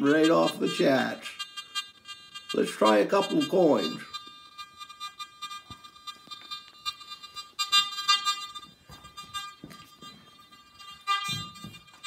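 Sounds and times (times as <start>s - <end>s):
metal detector buzzing tone: 0.0s - 12.0s.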